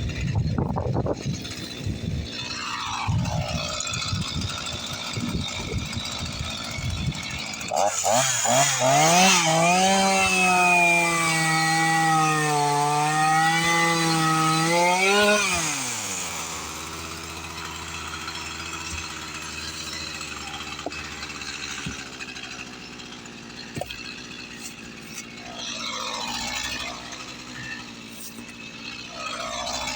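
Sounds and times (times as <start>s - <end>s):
chainsaw cutting wood: 0.0s - 29.9s.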